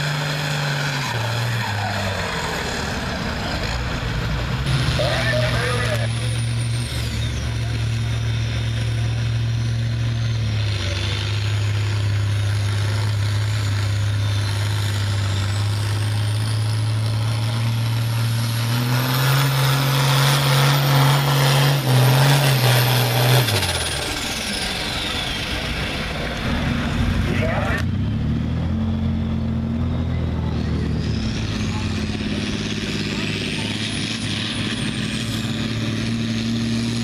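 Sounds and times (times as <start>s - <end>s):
diesel tractor engine: 0.0s - 37.0s.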